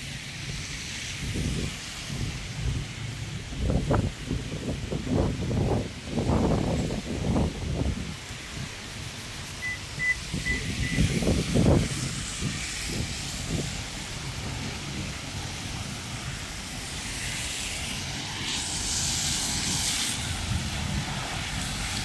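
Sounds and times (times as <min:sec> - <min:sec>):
car traffic on wet road: 0:00.0 - 0:22.0
rain hiss: 0:00.0 - 0:22.0
wind buffeting microphone: 0:00.3 - 0:22.0.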